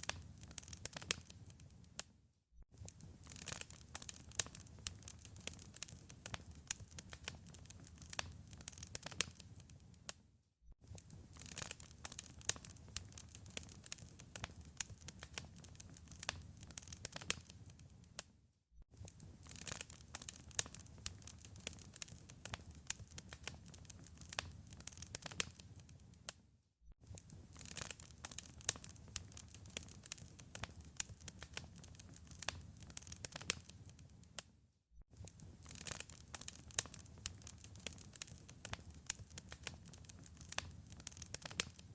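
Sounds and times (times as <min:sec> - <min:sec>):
wood fire crackling: 0:00.0 - 0:02.1, 0:02.8 - 0:10.2, 0:10.8 - 0:18.2, 0:19.0 - 0:26.4, 0:27.0 - 0:34.4, 0:35.2 - 0:41.9.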